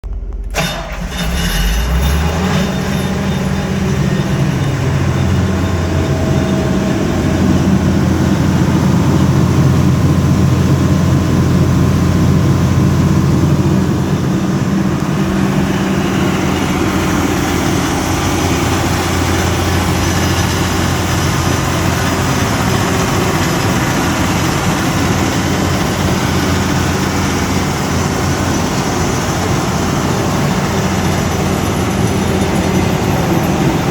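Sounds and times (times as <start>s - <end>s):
diesel generator engine running: 0.0s - 33.9s.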